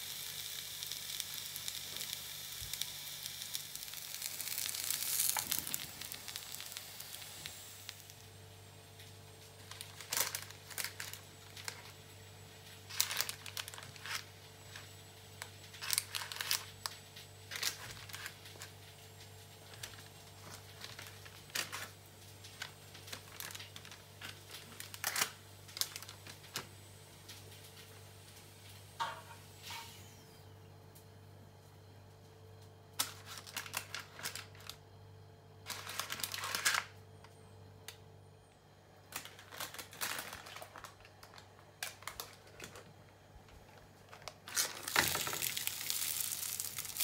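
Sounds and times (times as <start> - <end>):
baking parchment crinkling: 0.0 - 29.2, 33.0 - 34.9, 35.6 - 37.4, 39.0 - 47.0
steady low hum: 0.0 - 47.0.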